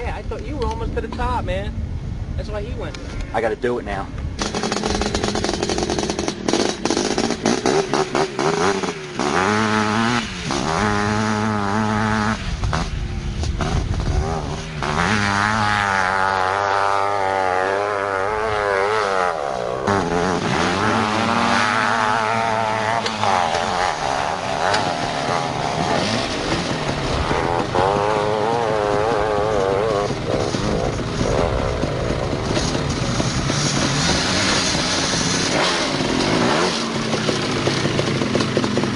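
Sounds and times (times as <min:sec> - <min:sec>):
quad engines revving: 0:04.4 - 0:38.9.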